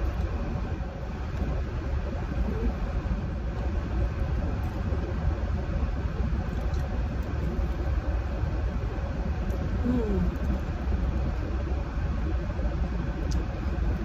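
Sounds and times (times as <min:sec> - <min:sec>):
air conditioning running: 0:00.0 - 0:14.0.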